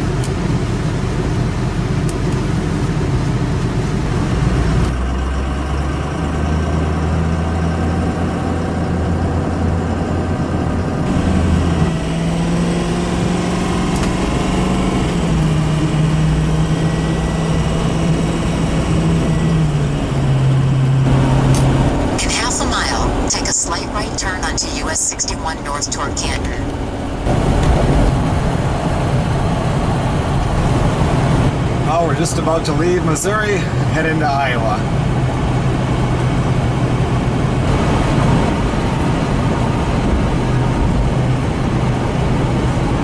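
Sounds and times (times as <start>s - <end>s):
road noise: 0.0s - 43.0s
truck engine drone: 0.0s - 43.0s.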